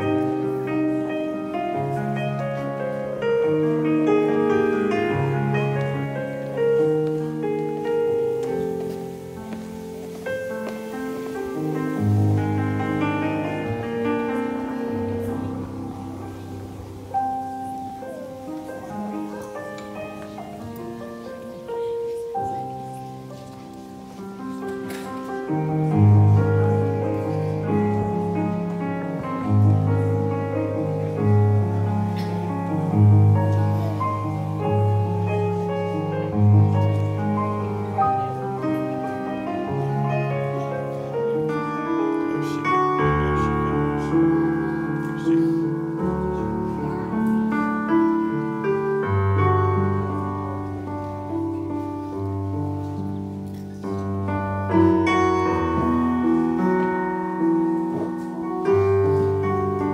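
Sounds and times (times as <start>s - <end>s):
slow gentle solo piano: 0.0s - 59.9s.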